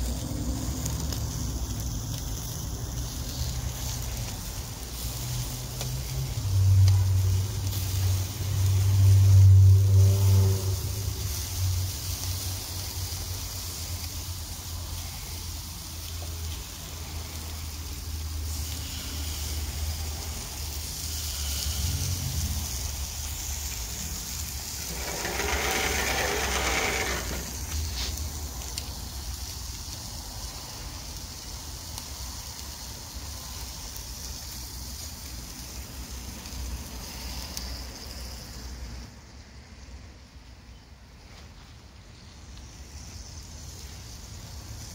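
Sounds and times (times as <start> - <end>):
steady hiss: 0.0 - 44.9.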